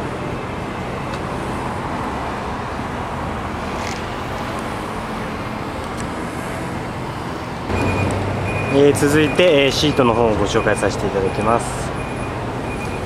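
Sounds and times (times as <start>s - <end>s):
motor vehicle rumble: 0.0s - 13.0s.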